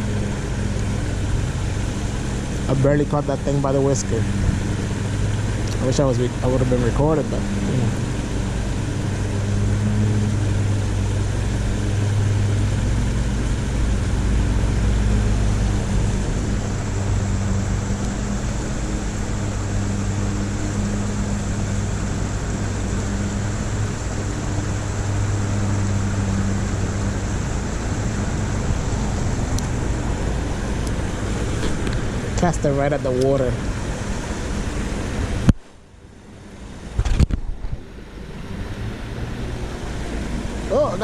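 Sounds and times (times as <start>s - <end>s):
water rushing through spillway: 0.0s - 35.5s, 37.9s - 41.0s
road traffic droning: 0.0s - 41.0s.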